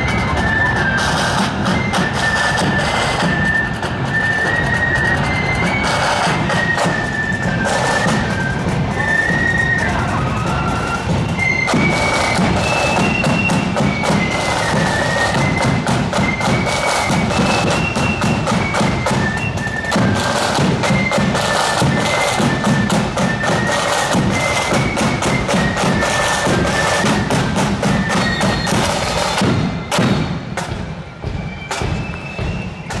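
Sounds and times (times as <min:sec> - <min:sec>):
flute melody: 0:00.0 - 0:33.0
snare and bass drums: 0:00.0 - 0:33.0.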